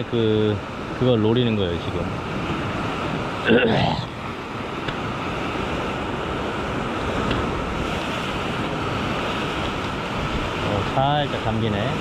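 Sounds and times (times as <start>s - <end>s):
sea surf breaking on rocks: 0.0s - 12.0s
wind on microphone: 0.0s - 12.0s.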